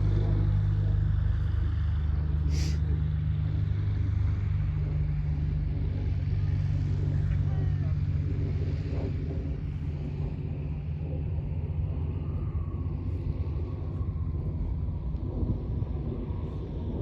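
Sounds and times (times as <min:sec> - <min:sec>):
aircraft piston engine rumble: 0:00.0 - 0:17.0
faint higher whine: 0:00.0 - 0:17.0.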